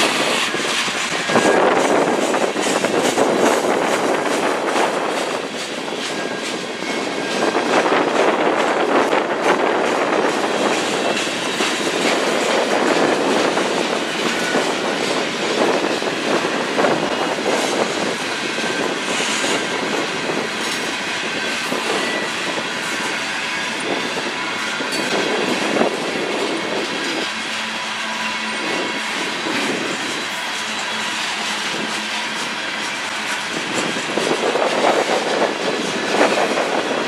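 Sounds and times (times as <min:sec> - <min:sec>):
freight train wheels clattering: 0:00.0 - 0:37.0.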